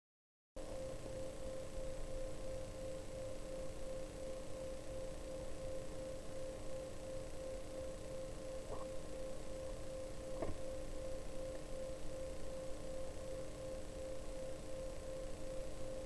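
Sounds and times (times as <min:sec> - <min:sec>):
electronic hum: 0:00.6 - 0:16.0.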